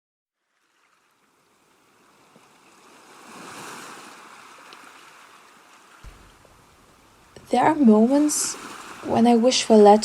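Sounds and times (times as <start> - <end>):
ocean surf wave: 0.5 - 10.0.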